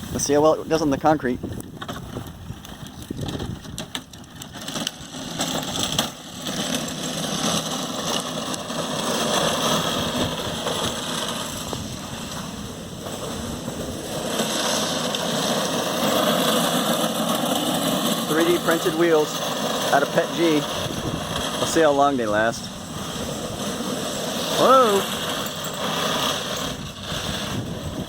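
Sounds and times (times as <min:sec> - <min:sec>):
wheels rolling on concrete: 0:00.0 - 0:28.0.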